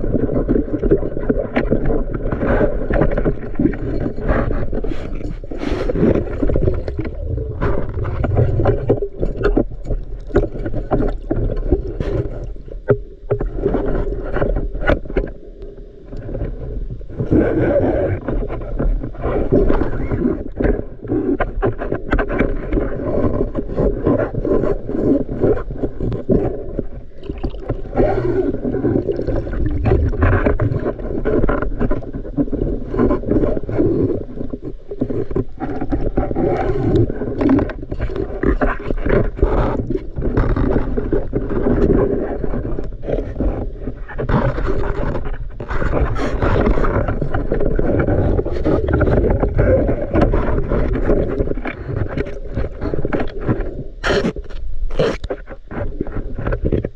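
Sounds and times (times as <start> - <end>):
underwater clicks and knocks: 0.0 - 16.6, 18.2 - 56.9
underwater river rush and gurgle: 0.0 - 56.9.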